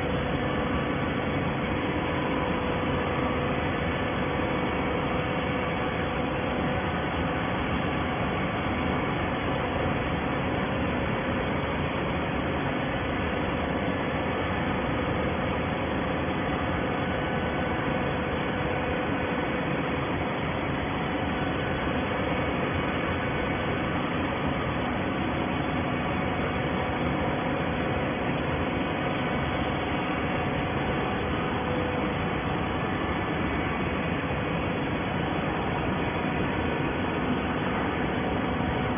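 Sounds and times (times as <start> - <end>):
baler machinery running: 0.0 - 38.9
low mechanical hum: 0.0 - 38.9.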